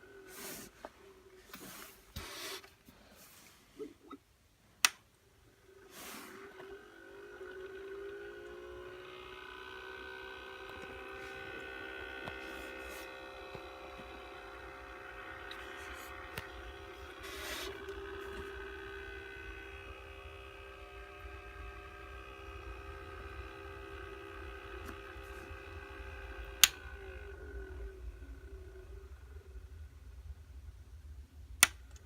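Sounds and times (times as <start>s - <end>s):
humidifier buzzing and grinding: 0.0s - 32.0s.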